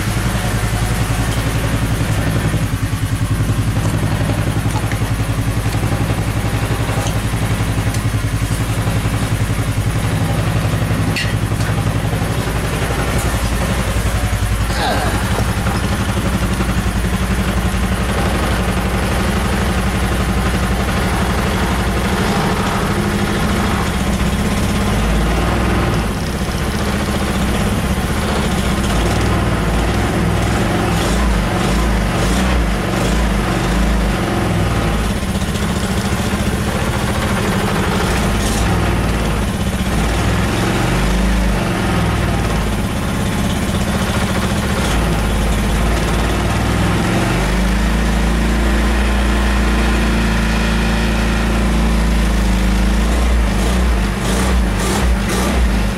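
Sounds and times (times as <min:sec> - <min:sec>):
go-kart engine running: 0:00.0 - 0:55.9.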